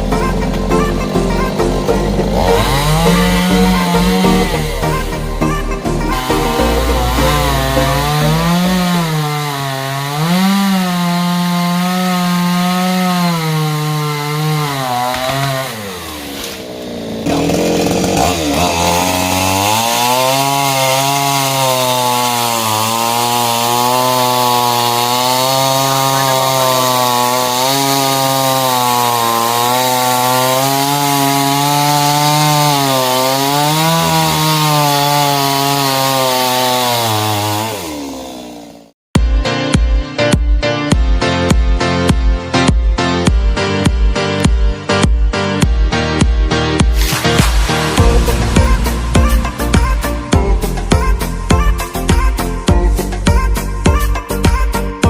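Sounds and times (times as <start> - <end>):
chainsaw cutting wood: 0.0 - 39.0, 43.6 - 55.0.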